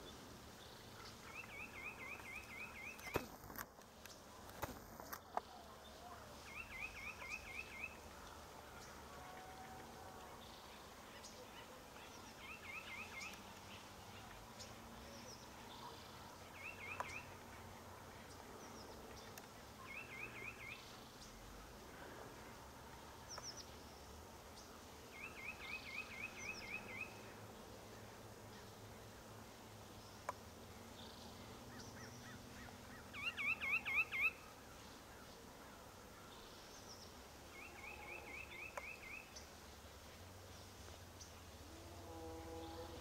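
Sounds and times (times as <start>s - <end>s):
outdoor background hiss: 0.0s - 43.0s.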